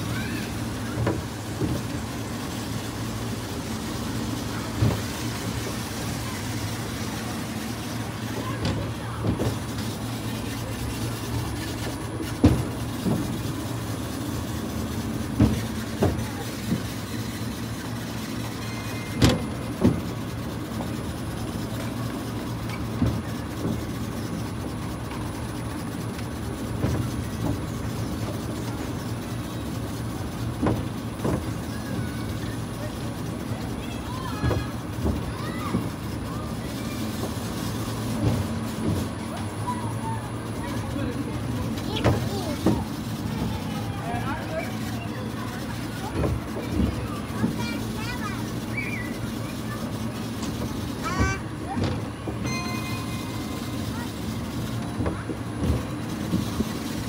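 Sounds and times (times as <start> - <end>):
monorail wheels rumbling: 0.0 - 57.0.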